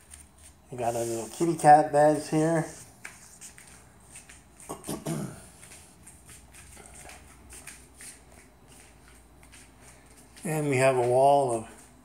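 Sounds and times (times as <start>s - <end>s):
light footsteps: 0.0s - 12.0s
rustling handling noise: 0.0s - 12.0s.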